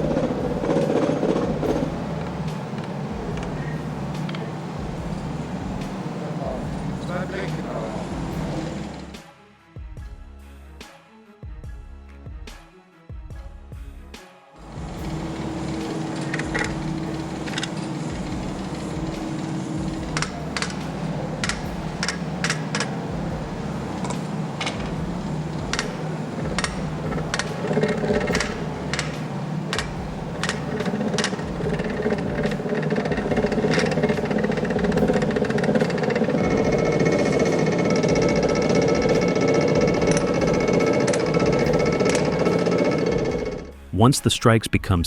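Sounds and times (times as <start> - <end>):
mechanical rumble: 0.0 - 9.2, 14.6 - 43.8
tail hammer blows: 0.0 - 9.3, 14.6 - 45.0.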